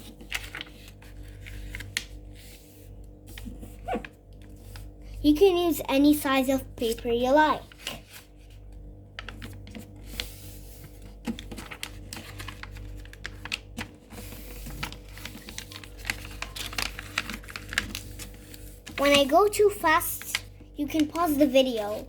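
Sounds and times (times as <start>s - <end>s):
paper being folded: 0.0s - 4.9s, 6.8s - 22.0s.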